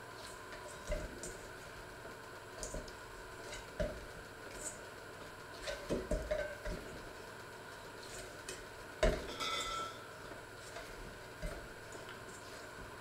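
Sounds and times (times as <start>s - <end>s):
dough squishing: 0.0s - 13.0s.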